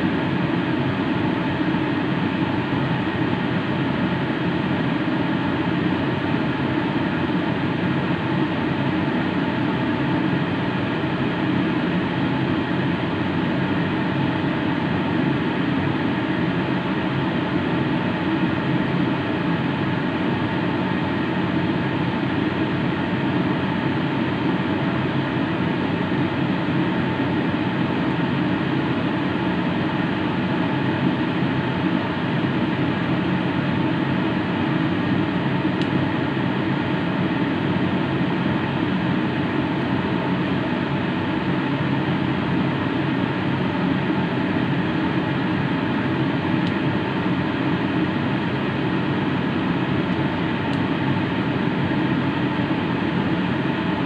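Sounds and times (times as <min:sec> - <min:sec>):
kitchen drone with humming tones: 0:00.0 - 0:54.0.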